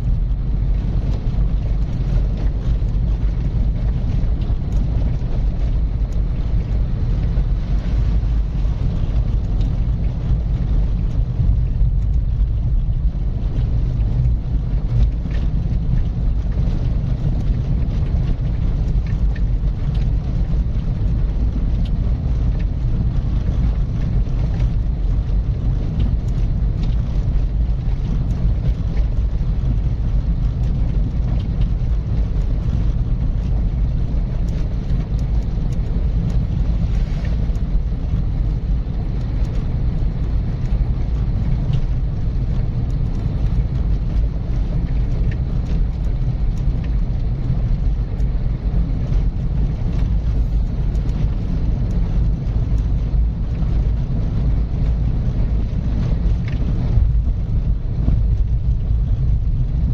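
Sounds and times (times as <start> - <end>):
tyres rumbling on road: 0.0 - 59.9
wind: 0.0 - 59.9.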